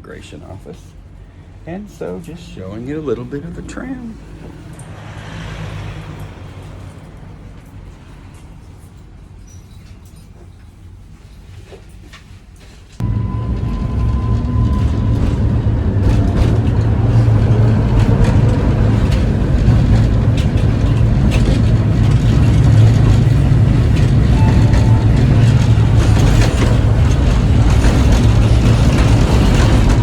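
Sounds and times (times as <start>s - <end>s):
tram rumbling on rails: 0.0s - 30.0s.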